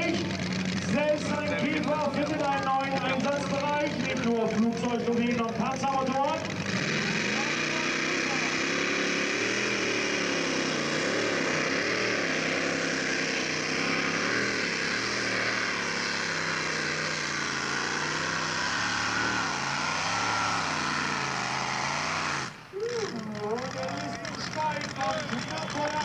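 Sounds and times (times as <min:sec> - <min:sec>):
tractor engine running under load: 0:00.0 - 0:26.0.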